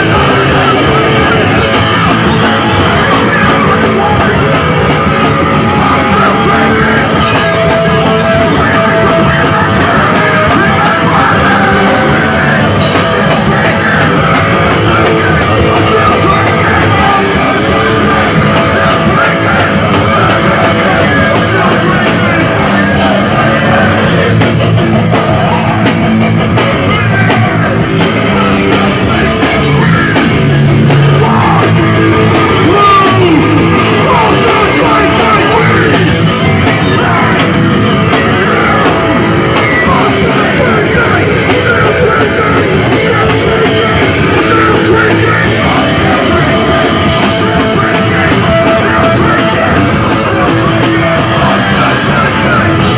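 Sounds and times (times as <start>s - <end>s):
loud punk rock music: 0.0s - 52.9s
shouted singing: 0.0s - 52.9s.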